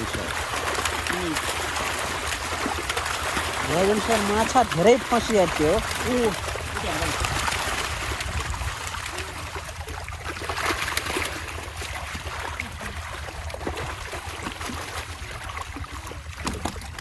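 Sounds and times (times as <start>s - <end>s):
pond water splashing: 0.0s - 17.0s
steady low rumble: 0.0s - 17.0s.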